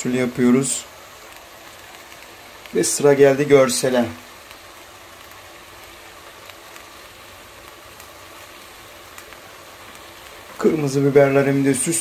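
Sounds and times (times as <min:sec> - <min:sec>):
beans simmering in oil: 0:00.0 - 0:12.0.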